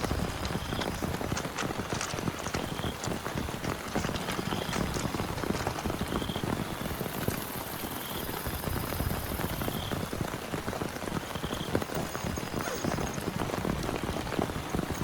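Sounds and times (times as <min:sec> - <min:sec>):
heavy rain on a tent: 0:00.0 - 0:15.0.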